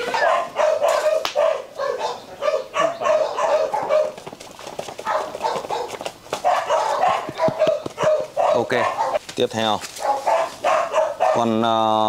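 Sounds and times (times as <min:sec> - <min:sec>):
puppy yapping: 0:00.0 - 0:04.2, 0:05.0 - 0:09.2, 0:10.0 - 0:11.6.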